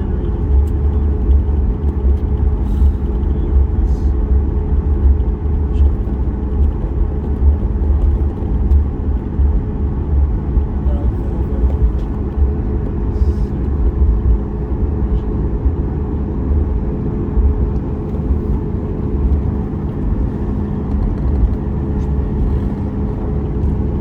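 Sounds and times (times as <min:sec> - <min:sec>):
aircraft engines humming: 0:00.0 - 0:24.0
low rumble: 0:00.0 - 0:24.0.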